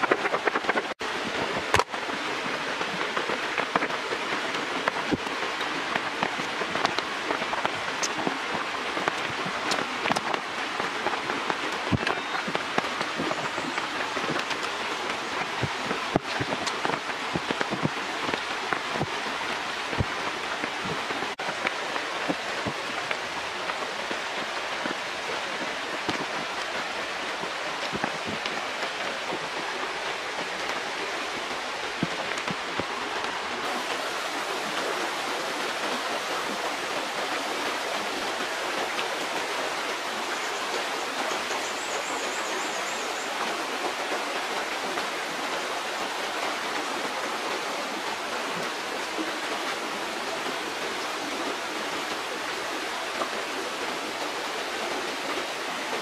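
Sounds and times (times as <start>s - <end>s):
falling rain: 0.0s - 56.0s
running stream water: 0.0s - 56.0s.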